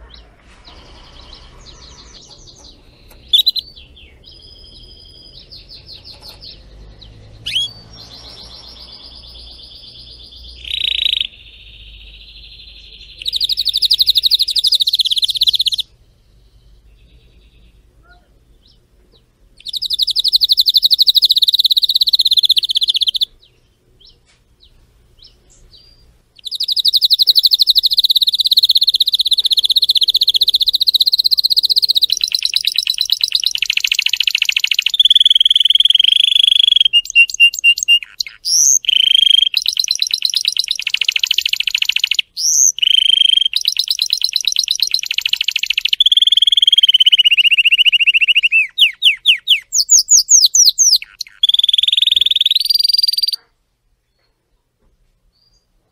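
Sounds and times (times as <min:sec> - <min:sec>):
canary singing trills: 0:00.0 - 0:53.5.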